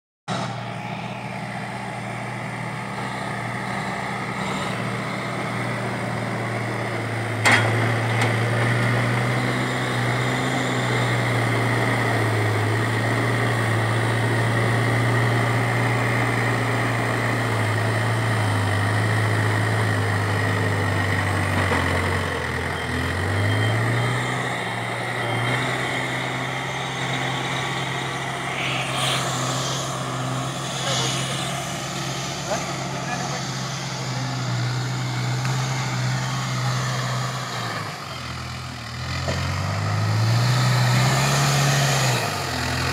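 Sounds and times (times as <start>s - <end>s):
diesel engine running: 0.3s - 42.9s.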